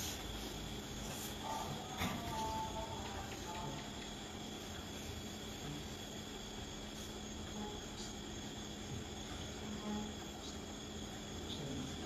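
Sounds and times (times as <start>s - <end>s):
high-pitched cricket-like trill: 0.0s - 12.0s.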